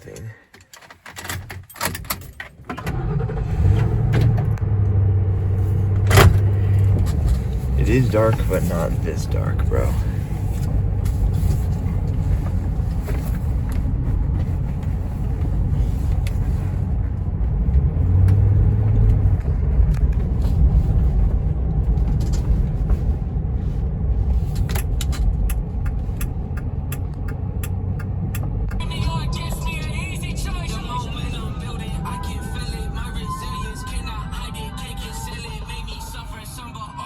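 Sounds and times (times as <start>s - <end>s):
car rumbling on road: 2.8s - 37.0s.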